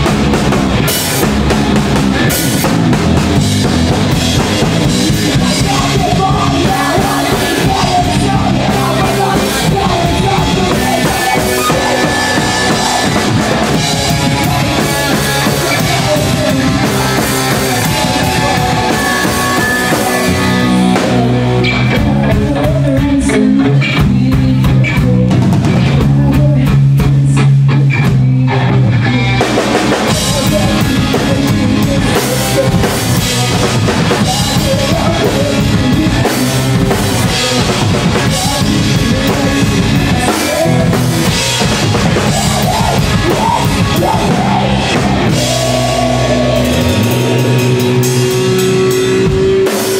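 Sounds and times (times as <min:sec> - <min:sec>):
distorted electric guitar: 0:00.0 - 0:49.9
drum kit with heavy cymbals: 0:00.0 - 0:49.9
electric bass: 0:00.0 - 0:49.9.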